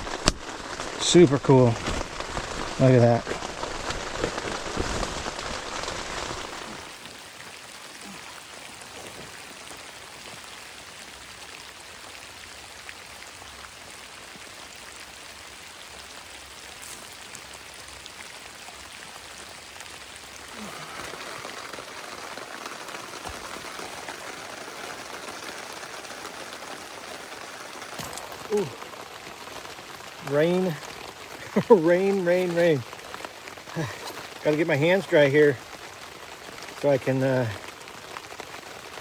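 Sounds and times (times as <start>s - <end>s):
heavy rain on a tent: 0.0s - 39.0s.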